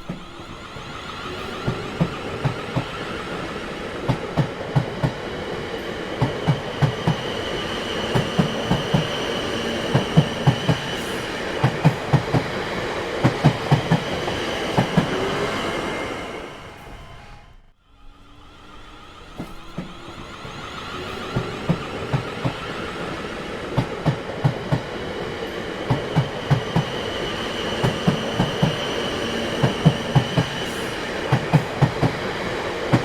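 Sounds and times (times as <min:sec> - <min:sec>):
train wheels clattering: 0:00.0 - 0:15.9, 0:19.3 - 0:33.0
train rumble: 0:00.0 - 0:33.0.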